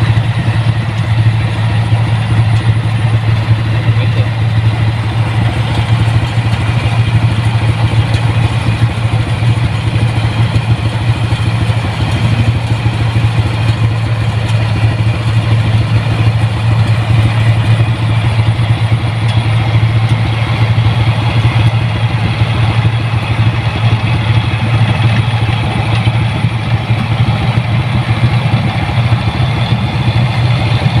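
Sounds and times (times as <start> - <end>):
diesel engine humming with rattle: 0.0 - 31.0.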